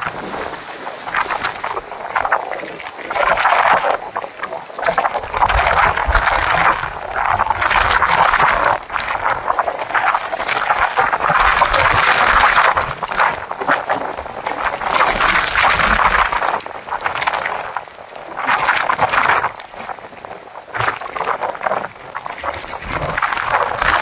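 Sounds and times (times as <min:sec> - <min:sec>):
strong wind gusts: 0:00.0 - 0:24.0.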